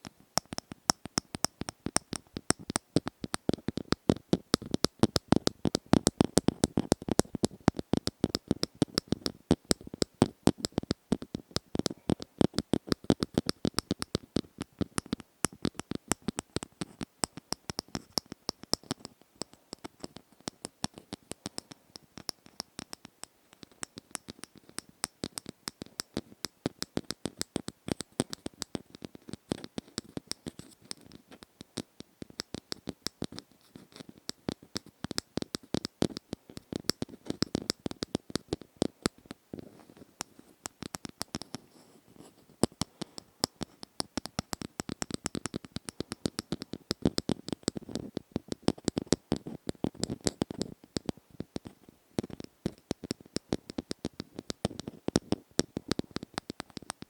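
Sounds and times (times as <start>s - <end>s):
rapid clicking and scratching: 0.4s - 57.0s.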